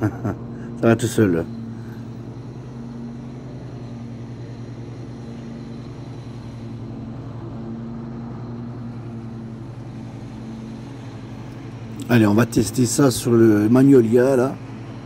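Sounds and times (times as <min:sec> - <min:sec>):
ride-on mower engine drone: 0:00.0 - 0:15.0.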